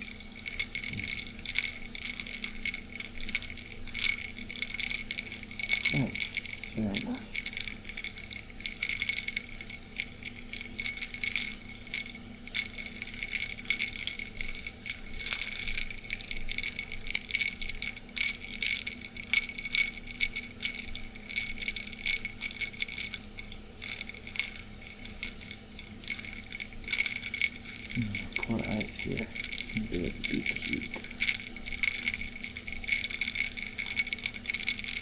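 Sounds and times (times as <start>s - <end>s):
ice cubes clinking in a glass: 0.0s - 35.0s.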